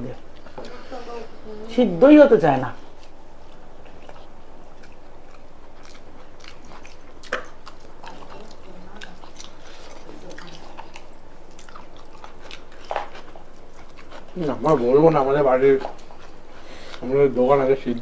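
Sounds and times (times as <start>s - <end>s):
person chewing: 0.0s - 18.0s.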